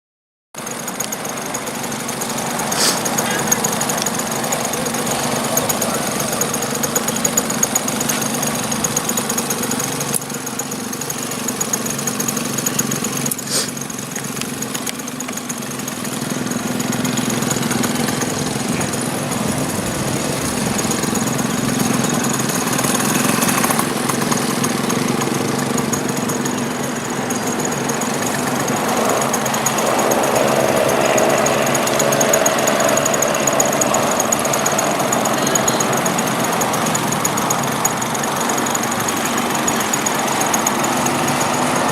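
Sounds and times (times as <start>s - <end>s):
model aircraft engine running: 0.6s - 41.9s.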